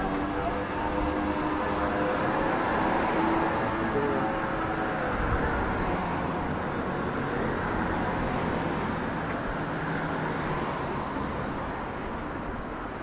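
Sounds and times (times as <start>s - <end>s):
road traffic passing cars: 0.0s - 13.0s.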